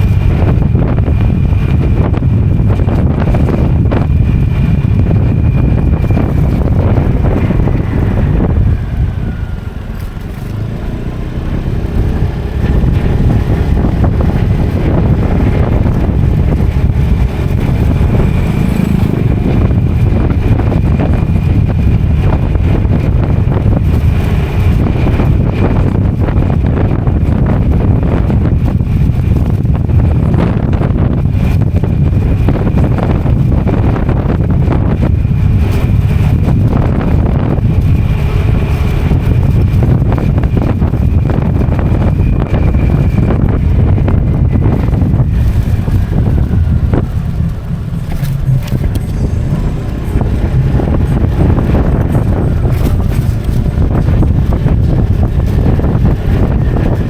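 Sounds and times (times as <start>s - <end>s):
motorcycle engine running: 0.0s - 57.0s
wind rumble on microphone: 0.0s - 57.0s.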